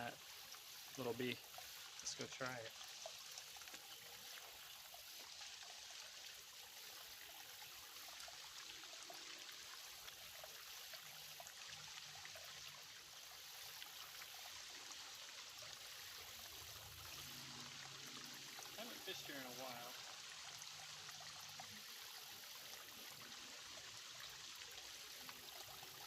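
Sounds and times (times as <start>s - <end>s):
creek trickling: 0.0s - 26.0s.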